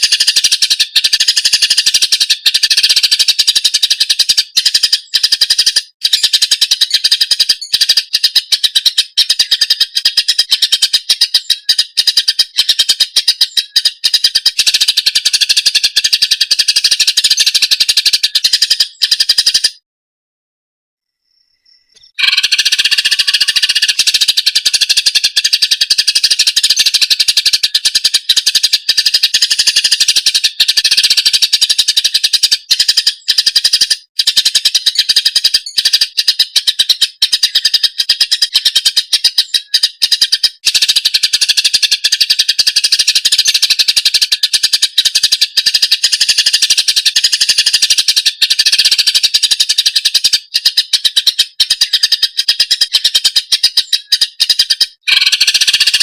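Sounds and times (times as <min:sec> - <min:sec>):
bird rapid chattering song: 0:00.0 - 0:19.8, 0:21.9 - 0:56.0.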